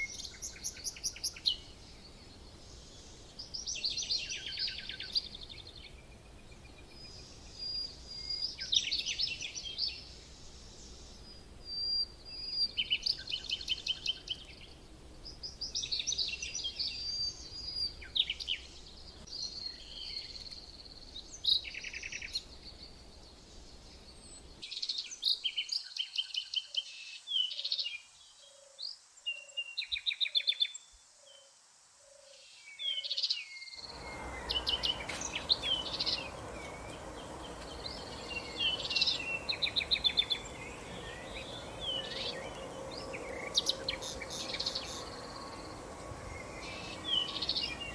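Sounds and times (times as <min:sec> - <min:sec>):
background hiss: 0:00.0 - 0:47.9
songbirds chirping and trilling: 0:00.0 - 0:47.9.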